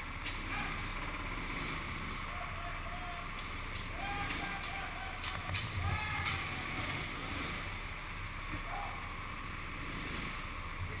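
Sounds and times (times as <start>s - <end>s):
faint tyre squeaks: 0.0s - 11.0s
go-kart motor and wind rush: 0.0s - 11.0s.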